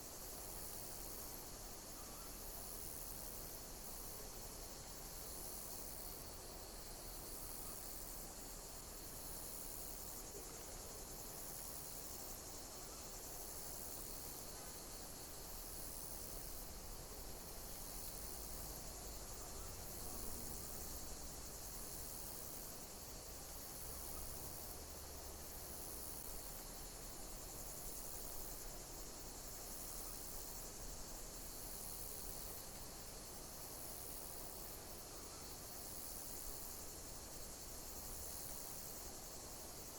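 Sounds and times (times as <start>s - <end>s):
insects chirping in chorus: 0.0s - 39.9s.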